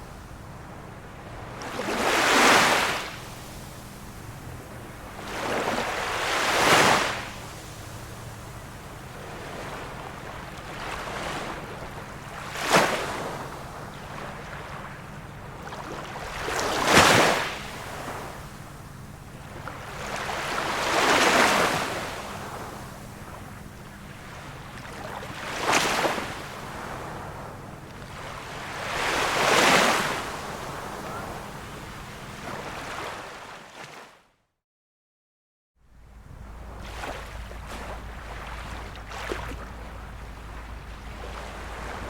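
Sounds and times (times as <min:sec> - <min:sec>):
small waves breaking on shore: 0:00.0 - 0:34.2, 0:36.0 - 0:42.0.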